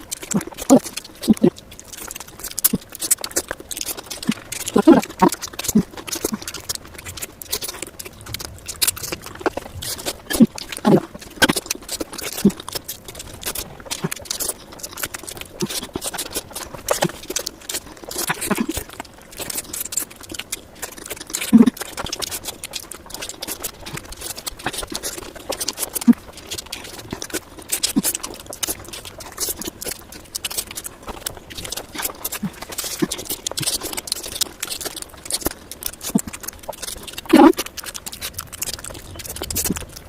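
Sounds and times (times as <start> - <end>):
person chewing food: 0.0 - 40.0
wet clicks and lip smacks: 0.0 - 40.0.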